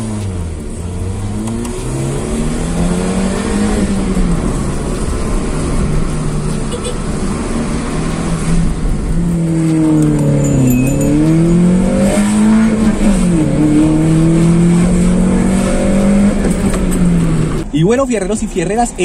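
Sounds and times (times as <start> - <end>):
car engine hum from cabin: 0.0 - 19.0.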